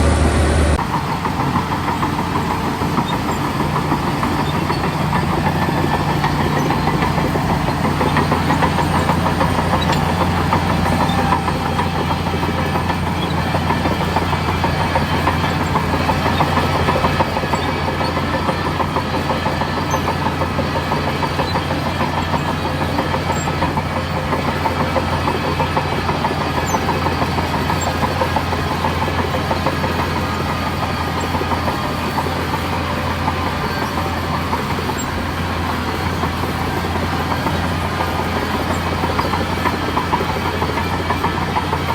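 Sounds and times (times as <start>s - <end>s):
heavy diesel engine throbbing: 0.0s - 41.9s.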